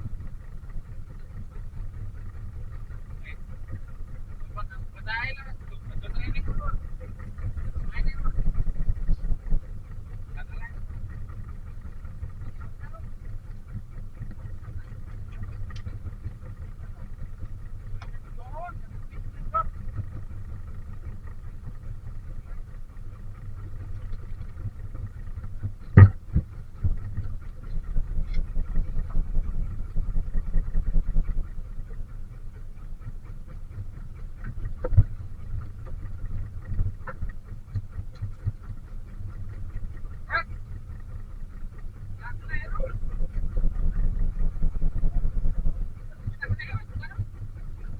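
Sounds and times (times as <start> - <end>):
boat engine rumble: 0.0 - 47.9.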